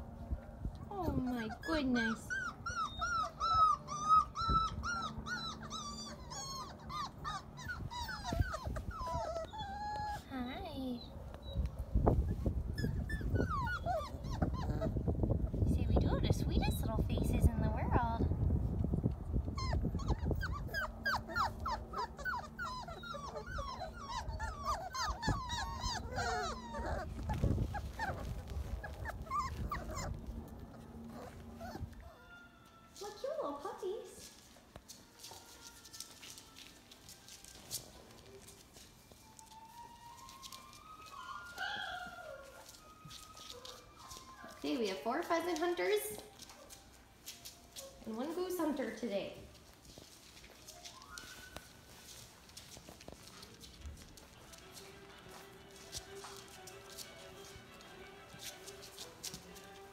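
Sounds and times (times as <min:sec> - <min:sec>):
puppies whining: 0:00.8 - 0:17.4, 0:19.1 - 0:33.6, 0:35.1 - 0:57.7.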